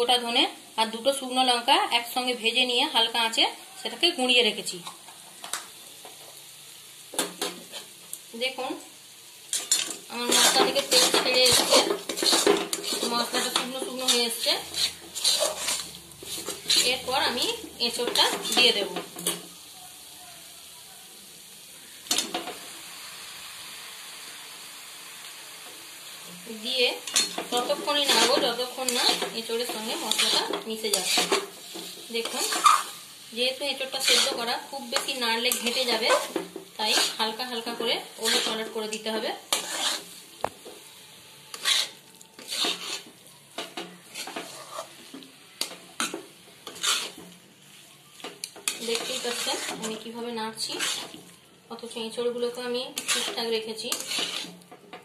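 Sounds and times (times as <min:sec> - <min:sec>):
paste sizzling in a metal pan: 0:00.0 - 0:55.0.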